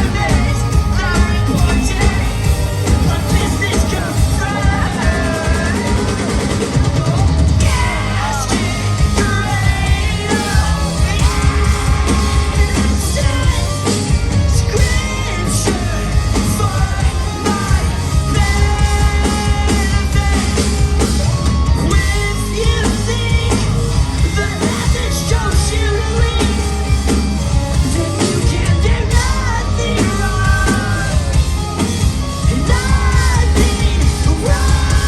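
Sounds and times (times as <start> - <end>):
distorted guitars and bass: 0.0 - 35.0
heavy drums: 0.0 - 35.0
shouted vocals: 0.0 - 35.0.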